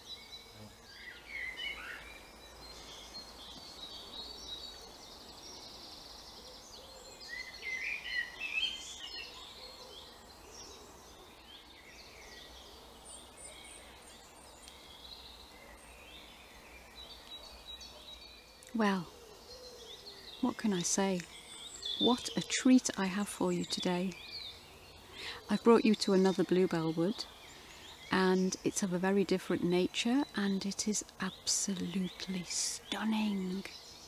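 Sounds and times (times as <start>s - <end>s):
small birds singing and chirping: 0.0s - 34.0s.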